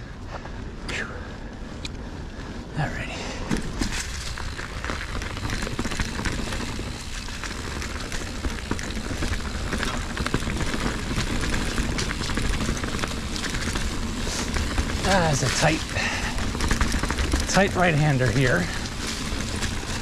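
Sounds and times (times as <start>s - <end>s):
bike tyres rolling on leafy dirt: 0.0s - 20.0s
small clicks and rattles: 3.7s - 20.0s.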